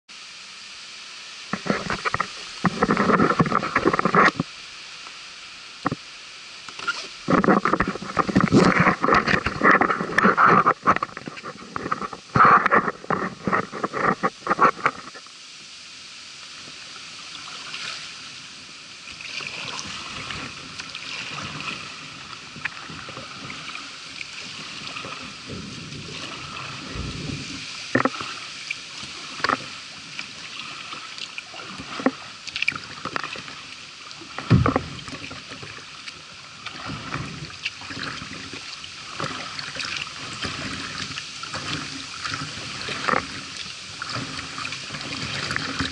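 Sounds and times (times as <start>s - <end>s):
paddle strokes splashing: 1.4s - 15.7s, 16.4s - 45.9s.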